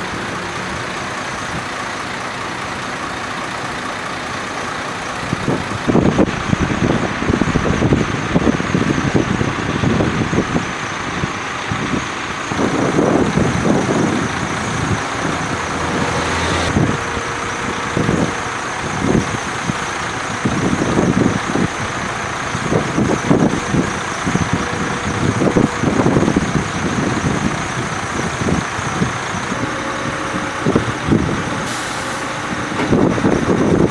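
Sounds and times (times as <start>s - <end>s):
low rumbles: 0.0s - 33.9s
truck diesel engines idling: 0.0s - 33.9s.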